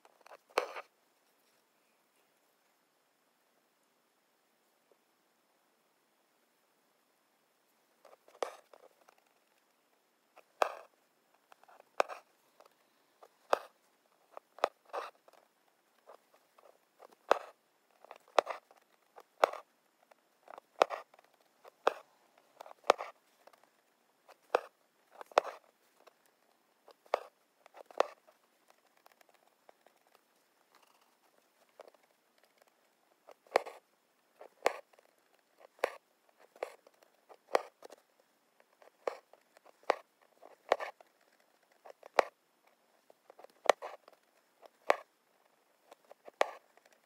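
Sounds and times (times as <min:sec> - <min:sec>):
thread rasping through fabric: 0:00.0 - 0:01.5, 0:08.0 - 0:47.0.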